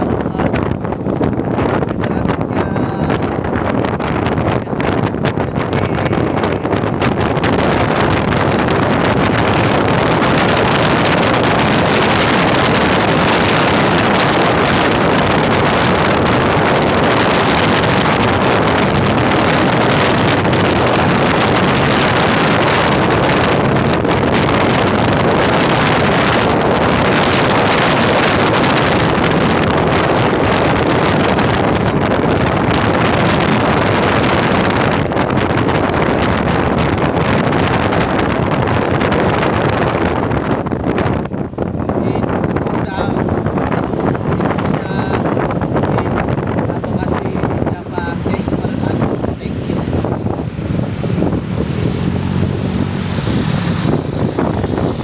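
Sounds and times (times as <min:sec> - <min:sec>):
vehicle running noise: 0:00.0 - 0:55.0
wind buffeting microphone: 0:00.0 - 0:55.0.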